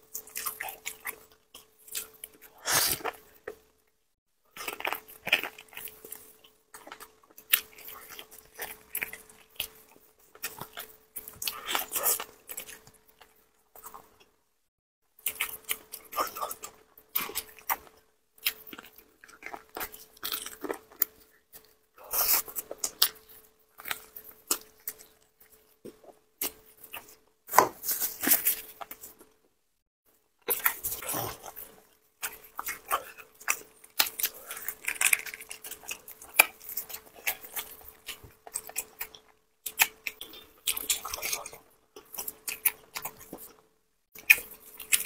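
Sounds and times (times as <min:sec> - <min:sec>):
chewing and wet mouth sounds: 0:00.0 - 0:03.9, 0:04.5 - 0:14.4, 0:15.2 - 0:29.4, 0:30.4 - 0:45.0.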